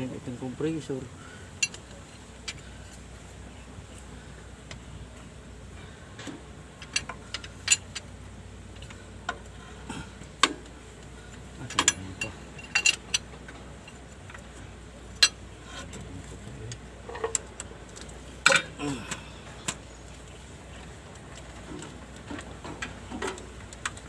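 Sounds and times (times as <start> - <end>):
metal tools clinking on engine: 0.6 - 3.0, 6.1 - 24.0.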